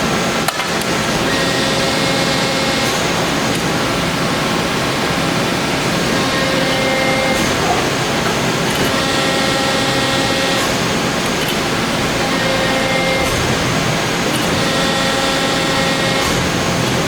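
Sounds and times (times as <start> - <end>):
press brake whir and hiss: 0.0 - 17.0.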